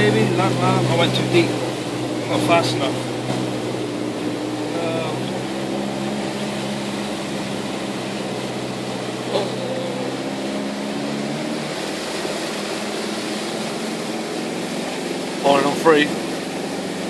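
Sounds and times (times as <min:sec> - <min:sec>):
car engine humming at low revs: 0:00.0 - 0:17.0
water hissing: 0:00.0 - 0:17.0.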